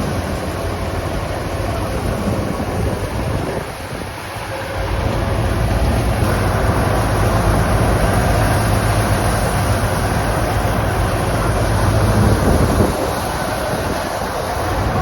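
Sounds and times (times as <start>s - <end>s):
thresher machine running: 0.0s - 15.0s.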